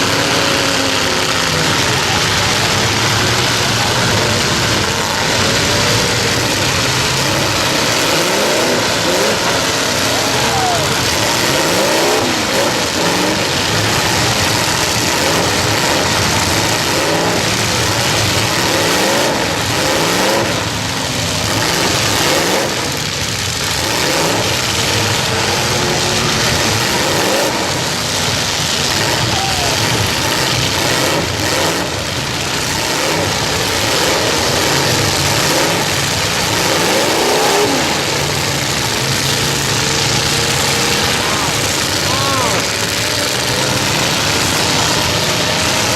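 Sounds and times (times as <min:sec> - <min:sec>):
truck engines revving: 0:00.0 - 0:45.9.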